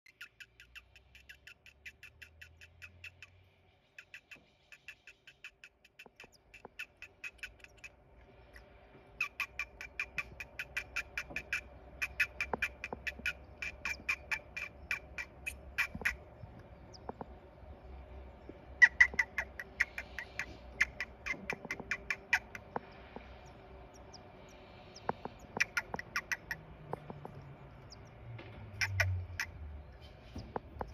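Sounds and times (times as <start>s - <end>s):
nestlings begging chirps: 0.1s - 30.9s
low steady hum: 5.6s - 30.9s.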